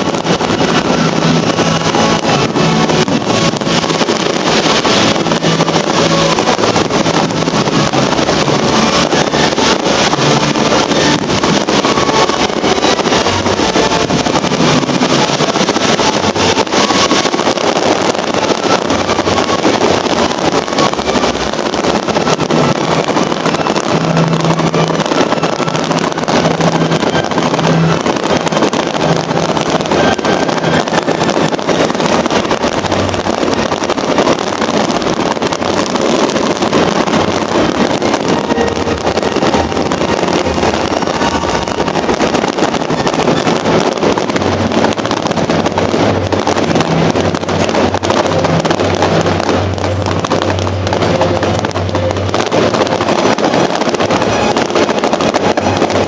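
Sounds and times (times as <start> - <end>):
fireworks bangs and crackles: 0.0 - 56.0
wind on microphone: 0.0 - 56.0.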